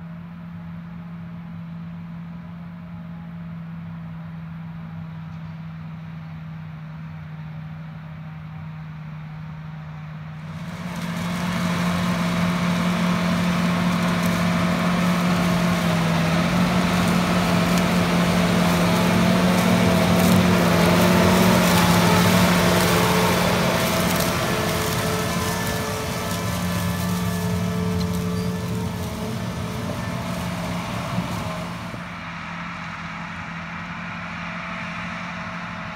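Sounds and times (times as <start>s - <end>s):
tractor engine hum: 0.0s - 35.9s.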